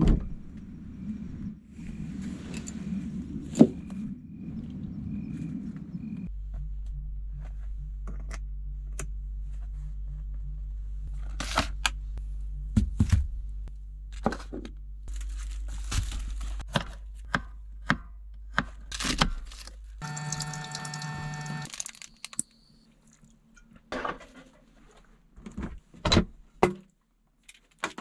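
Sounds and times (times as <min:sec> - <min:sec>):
low hum: 0:00.0 - 0:18.5, 0:19.5 - 0:23.7.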